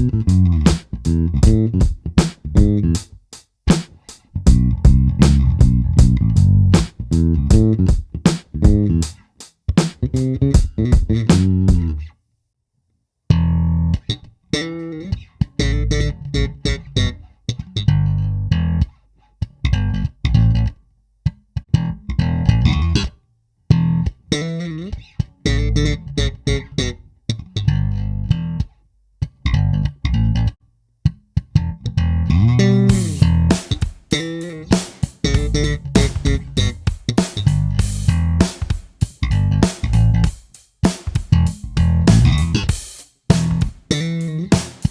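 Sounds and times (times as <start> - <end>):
electric bass guitar plucked notes: 0.0 - 3.2, 4.3 - 9.2, 10.0 - 12.1, 13.3 - 44.9.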